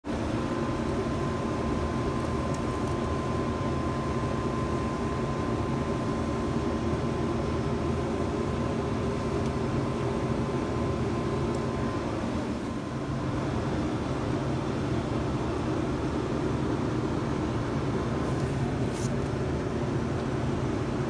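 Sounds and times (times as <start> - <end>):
machine hum: 0.0 - 21.0
thin constant whine: 0.0 - 21.0.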